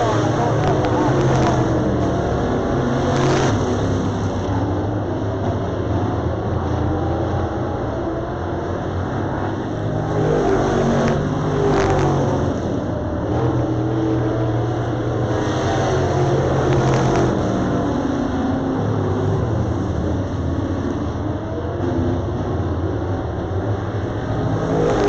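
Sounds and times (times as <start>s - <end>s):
race car engines: 0.0s - 25.0s.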